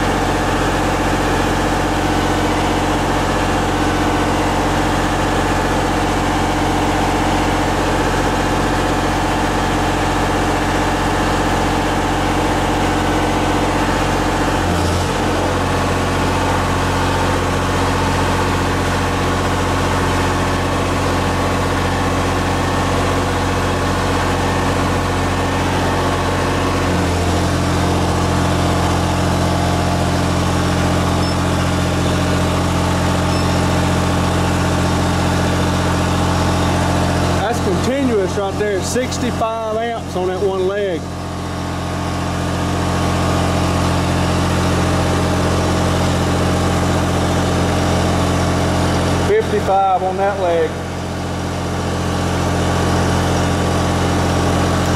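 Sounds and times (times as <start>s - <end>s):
diesel generator engine running: 0.0s - 54.9s.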